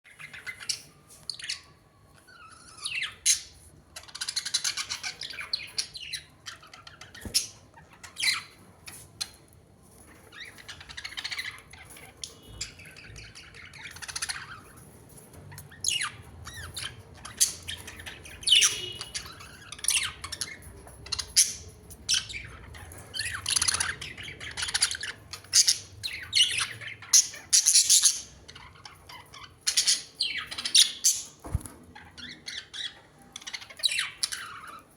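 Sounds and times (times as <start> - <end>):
birds squawking and chirping: 0.1 - 34.9.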